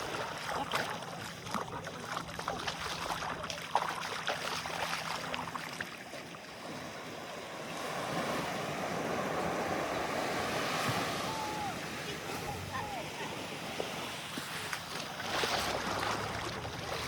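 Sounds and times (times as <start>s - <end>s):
sea water washing on shore: 0.0s - 17.0s.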